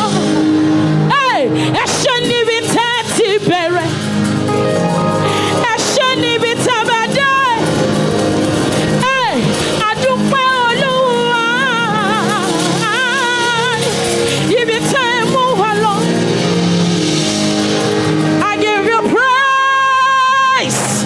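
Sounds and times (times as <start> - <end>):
woman singing gospel song: 0.0 - 4.0, 5.2 - 17.4, 18.4 - 21.0
band accompaniment: 1.8 - 21.0.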